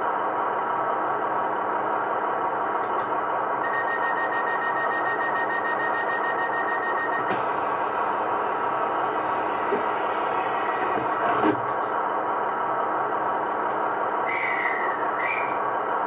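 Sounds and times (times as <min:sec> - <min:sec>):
diesel train engines running: 0:00.0 - 0:16.0.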